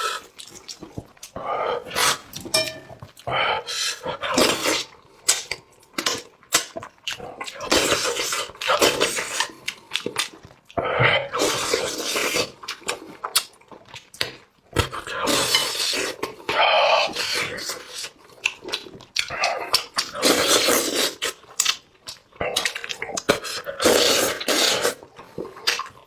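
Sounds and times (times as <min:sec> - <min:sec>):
person slurping and chewing: 0:00.0 - 0:26.0.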